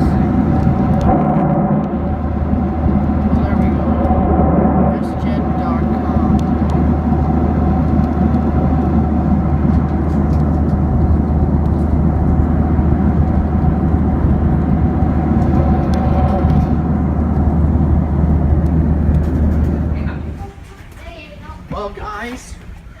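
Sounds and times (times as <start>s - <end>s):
faint steady whine: 0.0s - 23.0s
jet engine cabin rumble: 0.0s - 23.0s.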